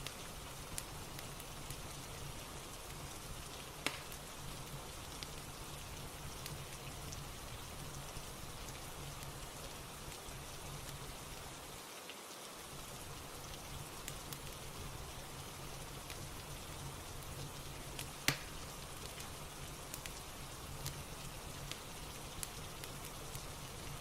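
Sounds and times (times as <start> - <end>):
fireplace crackling and popping: 0.0 - 11.8, 12.6 - 24.0
steady rain: 0.0 - 24.0.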